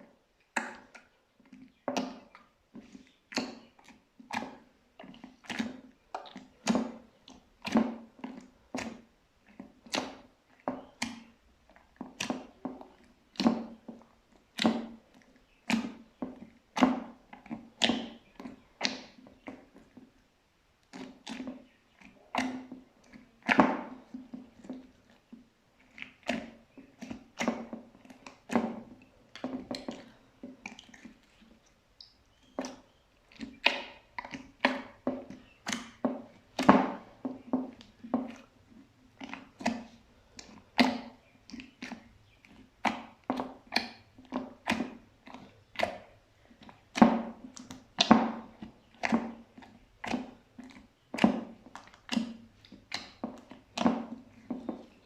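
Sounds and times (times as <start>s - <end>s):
slime squishing by hand: 0.0s - 20.2s, 20.8s - 55.0s.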